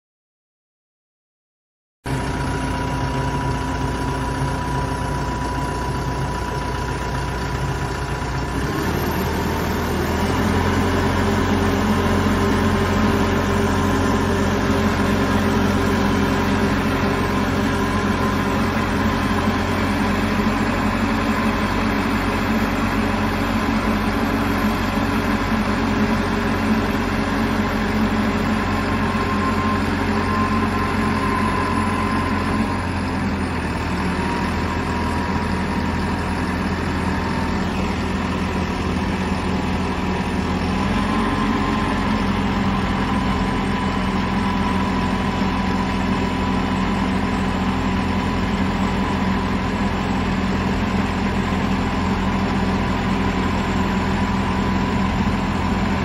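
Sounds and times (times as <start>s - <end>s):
diesel engine idling and revving: 2.1s - 56.0s.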